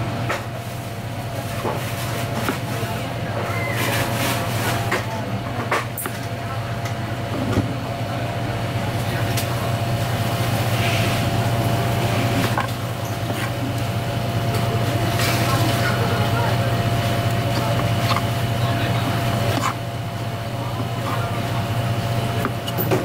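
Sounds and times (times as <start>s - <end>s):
low machinery hum: 0.0s - 23.0s.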